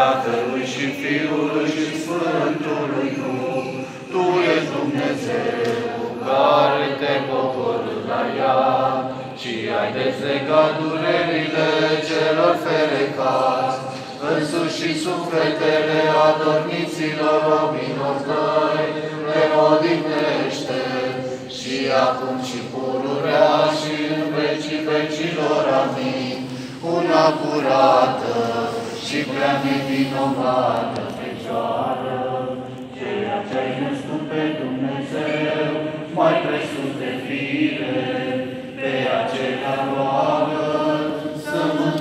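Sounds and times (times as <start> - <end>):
choir chanting: 0.0 - 42.0.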